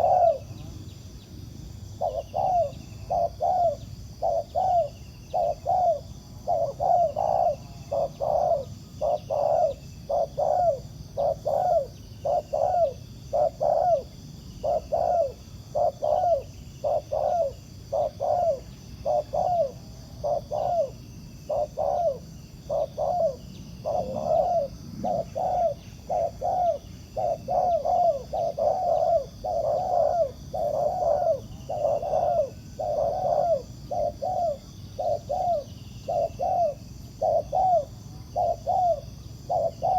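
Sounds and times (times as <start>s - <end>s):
dove cooing: 0.0s - 1.0s, 1.9s - 39.9s.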